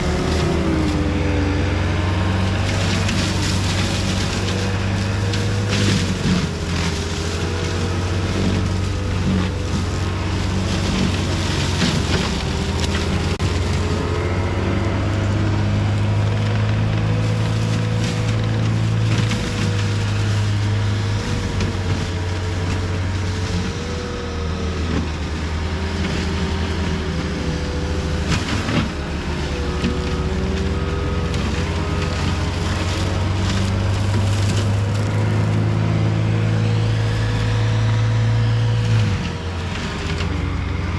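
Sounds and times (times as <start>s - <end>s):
diesel engine under load: 0.0s - 40.9s
mulcher whine: 0.0s - 40.9s.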